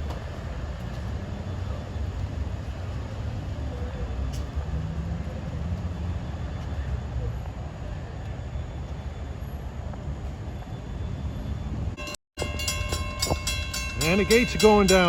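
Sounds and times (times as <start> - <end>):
locomotive diesel engine rumbling: 0.0 - 15.0
train station noise: 0.0 - 15.0.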